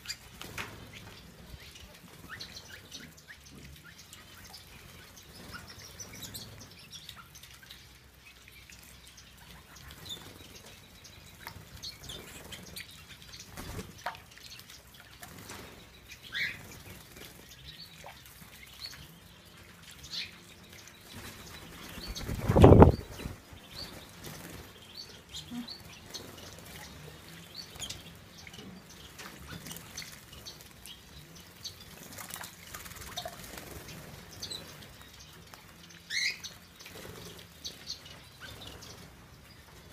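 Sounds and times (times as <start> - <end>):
birds fluttering wings: 0.0 - 3.0, 9.9 - 39.9.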